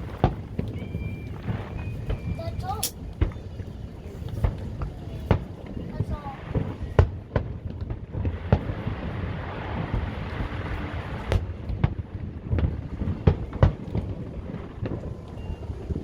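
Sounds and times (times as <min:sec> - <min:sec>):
fireworks bangs: 0:00.0 - 0:16.0
wind rumbling on microphone: 0:00.0 - 0:16.0.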